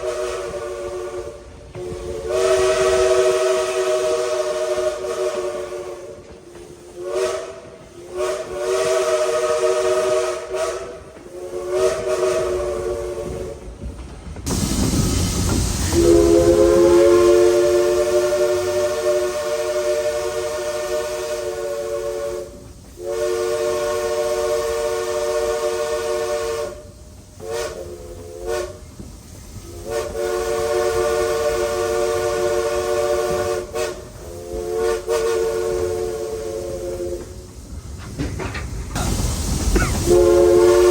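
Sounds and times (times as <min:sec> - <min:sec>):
three-chime steam whistle: 0:00.0 - 0:06.2, 0:06.9 - 0:13.5, 0:15.8 - 0:28.8, 0:29.6 - 0:37.4, 0:39.8 - 0:40.9
steam hiss: 0:00.0 - 0:40.9.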